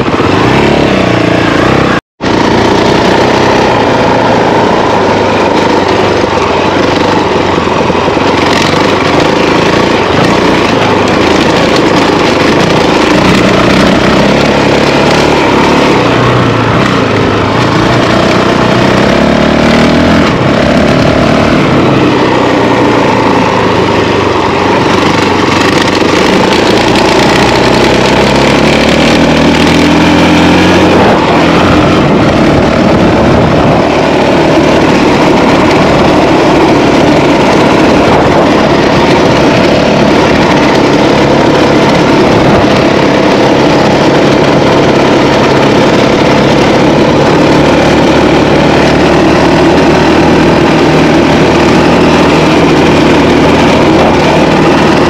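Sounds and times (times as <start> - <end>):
motorcycle engine revving: 0.0 - 55.0
wind rushing: 0.0 - 55.0.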